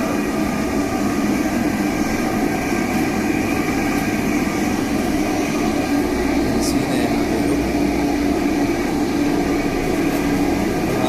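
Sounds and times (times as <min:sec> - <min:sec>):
machinery droning: 0:00.0 - 0:11.0.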